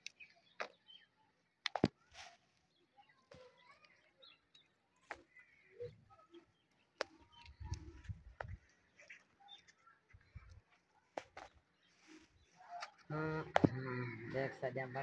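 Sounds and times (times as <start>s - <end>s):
bird chirps: 0.0s - 15.0s
soft rustling of plants: 0.0s - 15.0s.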